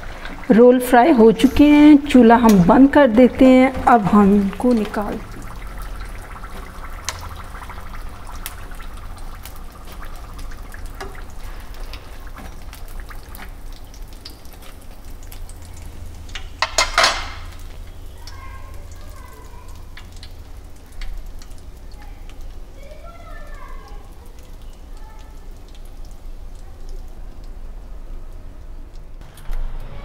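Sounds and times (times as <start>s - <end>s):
spring rolls crackling in hot oil: 0.0s - 29.4s.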